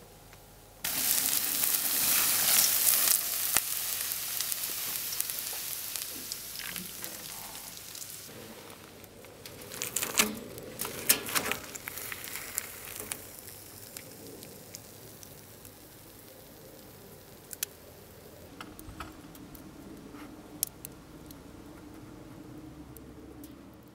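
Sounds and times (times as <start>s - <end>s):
melted plastic crackling and popping: 0.8s - 22.1s.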